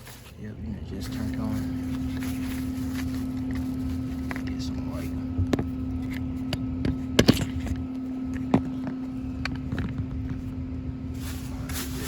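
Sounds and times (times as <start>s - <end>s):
hvac unit humming: 0.0s - 12.0s.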